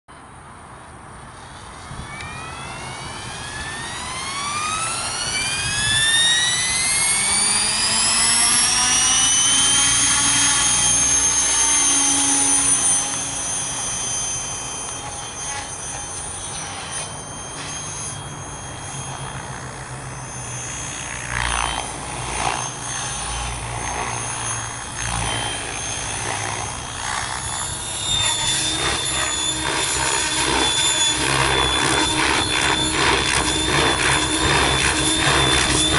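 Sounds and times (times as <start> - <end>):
radio-controlled helicopter whine: 0.1 - 35.9.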